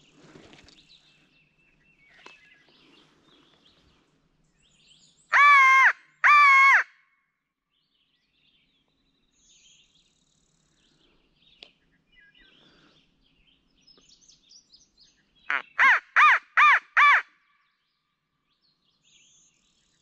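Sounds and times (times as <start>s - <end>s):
faint songbird chirps: 0.0s - 5.4s, 7.6s - 15.8s, 17.5s - 20.0s.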